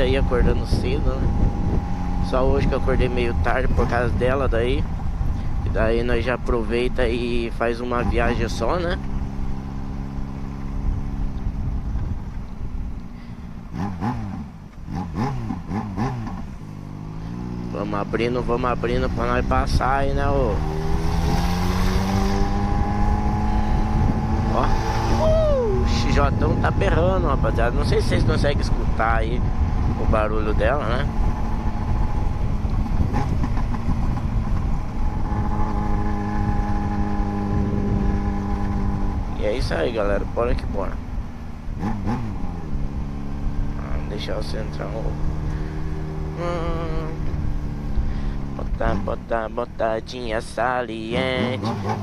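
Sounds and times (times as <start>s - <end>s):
wind noise: 0.0s - 17.4s, 18.0s - 50.4s
motorcycle engine running: 0.0s - 52.0s
motorcycle throttle blips: 7.2s - 52.0s.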